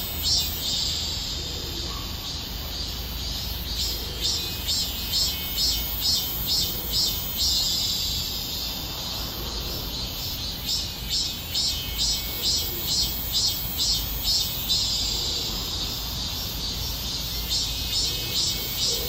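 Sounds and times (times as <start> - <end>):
cicada buzzing: 0.0 - 19.0.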